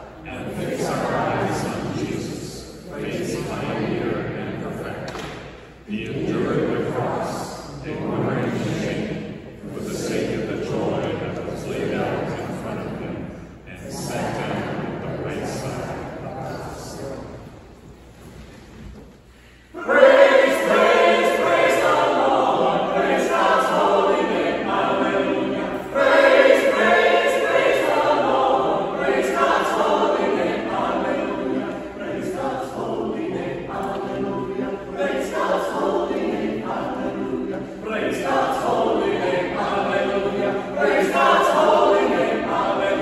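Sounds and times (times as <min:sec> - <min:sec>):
church choir singing: 0:00.0 - 0:43.0.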